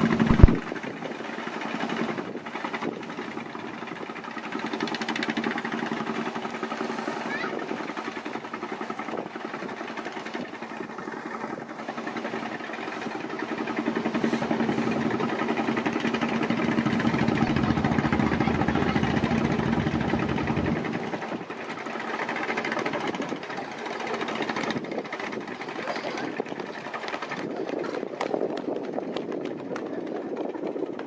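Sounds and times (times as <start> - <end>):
boat engine knocking chug: 0.0 - 31.0.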